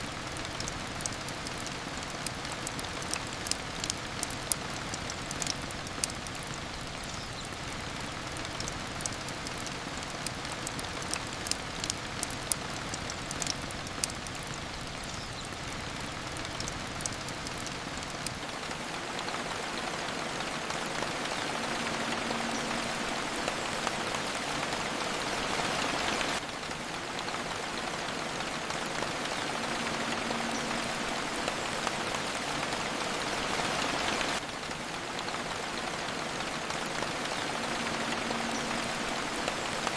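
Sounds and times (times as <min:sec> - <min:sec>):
sharp drip ticks: 0:00.0 - 0:34.6
steady rain falling: 0:00.0 - 0:39.9.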